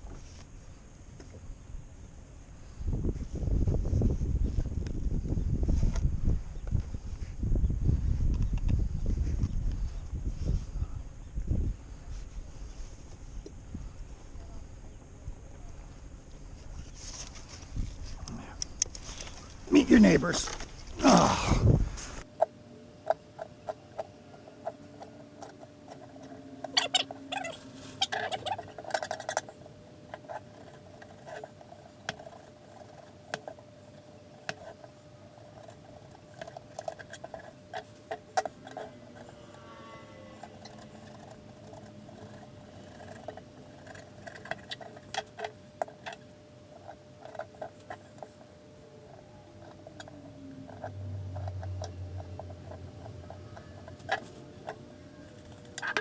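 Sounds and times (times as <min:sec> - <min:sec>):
steady faint hum: 0:00.0 - 0:56.0.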